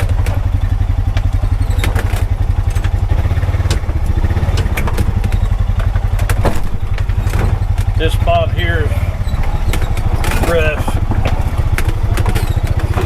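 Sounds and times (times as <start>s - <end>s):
engine running: 0.0s - 13.0s
vehicle rattling over rough ground: 0.0s - 13.0s.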